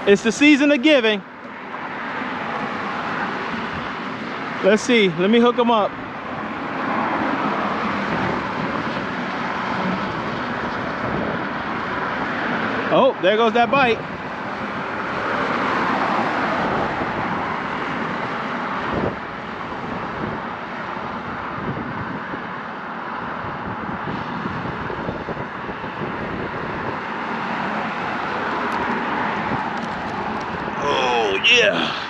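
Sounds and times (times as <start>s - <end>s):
traffic road noise: 0.0s - 32.0s.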